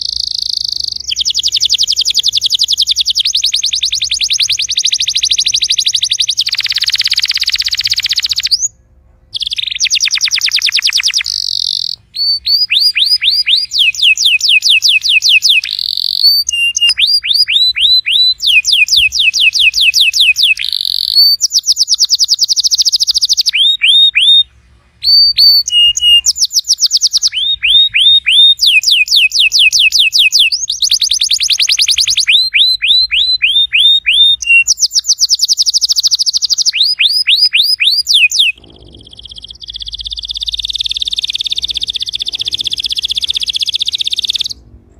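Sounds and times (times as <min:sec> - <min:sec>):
canary singing trills: 0:00.0 - 0:44.7.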